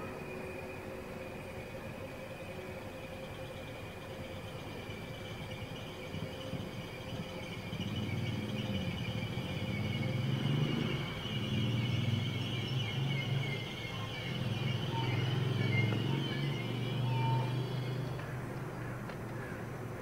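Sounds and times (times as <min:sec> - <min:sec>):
high-pitched train wheel squeal: 0:00.0 - 0:19.0
low rumble of train coaches: 0:00.0 - 0:20.0.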